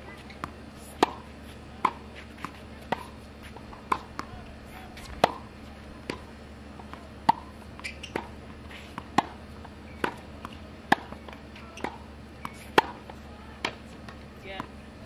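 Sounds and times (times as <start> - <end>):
faint steady hum: 0.0 - 15.0
tennis racket hitting ball: 0.1 - 14.7.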